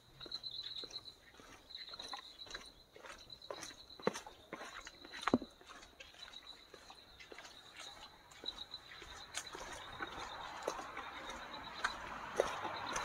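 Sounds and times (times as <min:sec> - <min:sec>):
footsteps on stone: 0:00.0 - 0:13.0.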